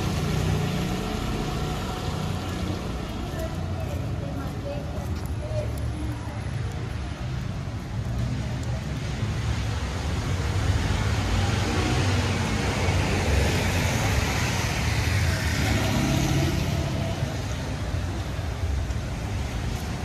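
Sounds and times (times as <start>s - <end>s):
car engines rumbling: 0.0s - 20.0s
tyres hissing on wet pavement: 0.0s - 20.0s.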